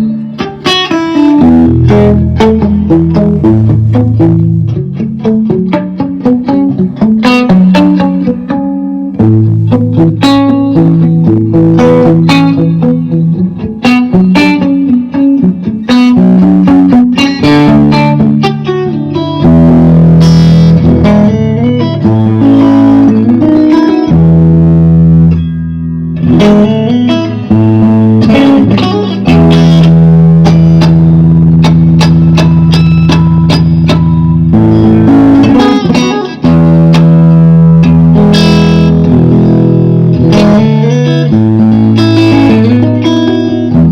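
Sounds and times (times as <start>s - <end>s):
electric guitar riffs and chords: 0.0s - 43.9s.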